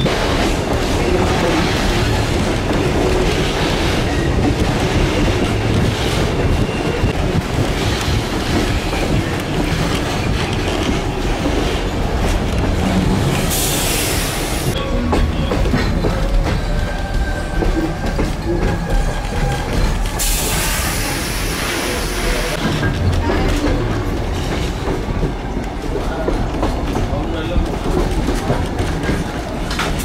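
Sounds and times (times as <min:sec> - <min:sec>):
train wheels rumbling on track: 0:00.0 - 0:30.0.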